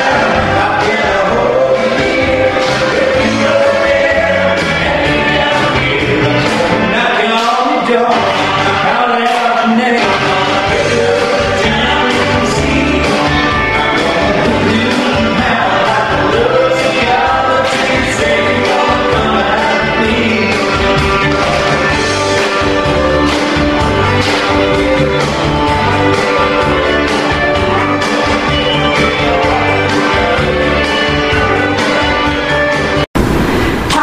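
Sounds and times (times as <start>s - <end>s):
country rock song with singer: 0.0s - 33.0s.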